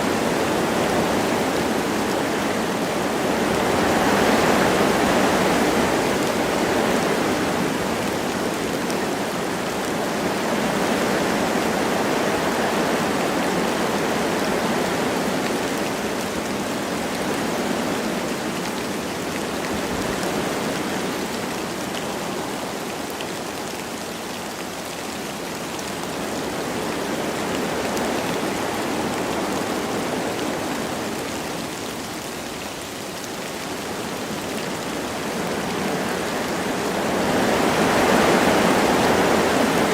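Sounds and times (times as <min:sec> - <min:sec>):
light rain falling: 0:00.0 - 0:39.9
wind through trees: 0:00.0 - 0:39.9.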